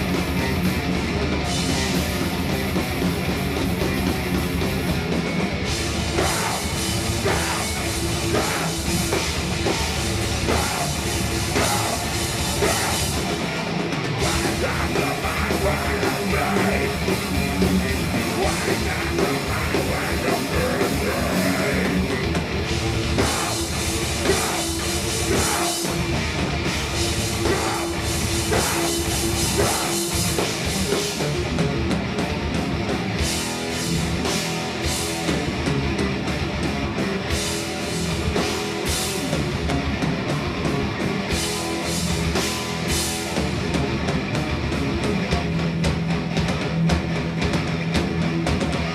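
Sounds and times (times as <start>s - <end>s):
distorted electric guitars: 0.0s - 48.9s
drum kit: 0.0s - 48.9s.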